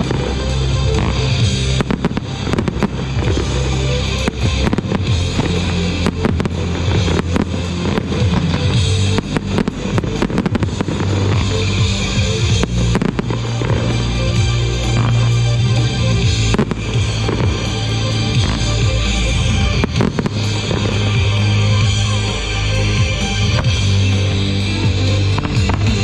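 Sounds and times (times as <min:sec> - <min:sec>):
fireworks bursting: 0:00.0 - 0:26.0
loud music with bass: 0:00.0 - 0:26.0.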